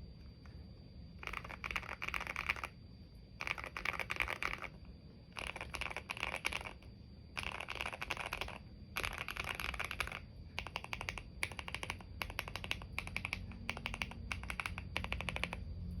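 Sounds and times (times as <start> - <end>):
mechanical keyboard typing: 1.2 - 2.8, 3.4 - 6.8, 7.4 - 15.7.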